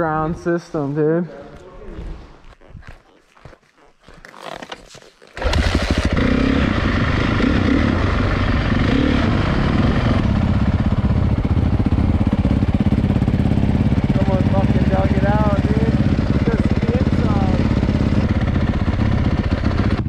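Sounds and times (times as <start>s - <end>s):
dirt bike engine: 0.0s - 20.0s.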